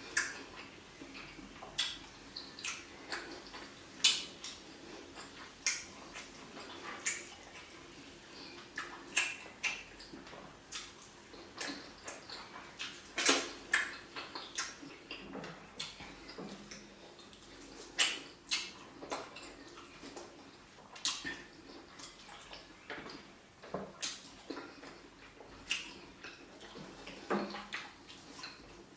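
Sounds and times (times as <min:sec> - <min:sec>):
lip smacks: 0:00.0 - 0:28.7
wet chewing: 0:00.0 - 0:28.9.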